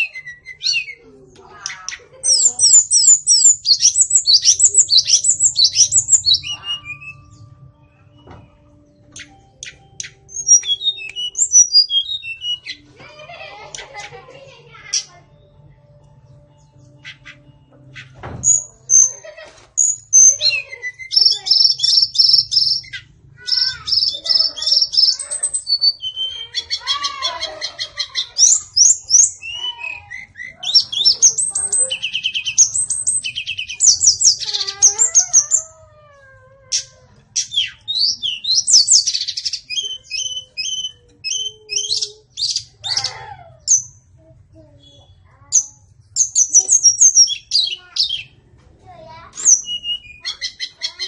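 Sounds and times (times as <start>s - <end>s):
bird singing varied song: 0.0s - 51.0s.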